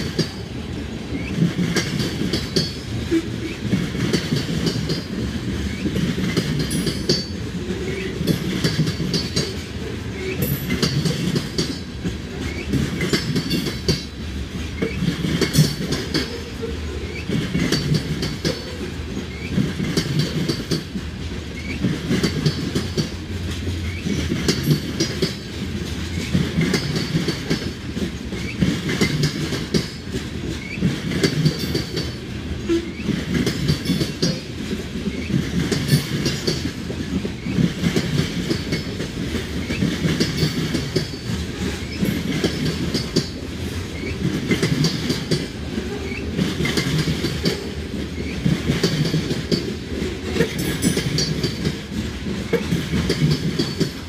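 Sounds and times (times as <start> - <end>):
train rumble: 0.0 - 54.0
train wheels clicking: 0.0 - 54.0.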